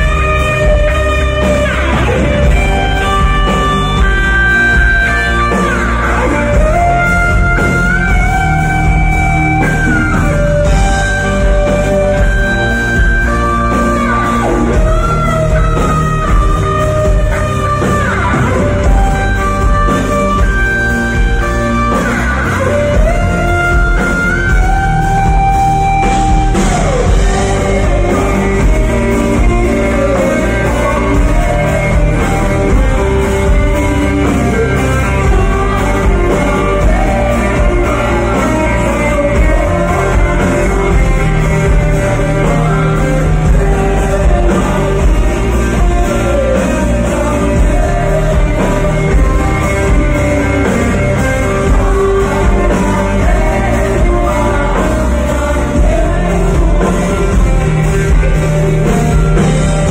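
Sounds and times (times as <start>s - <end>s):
bass guitar: 0.0s - 59.9s
drums: 0.0s - 59.9s
person singing: 0.0s - 59.9s.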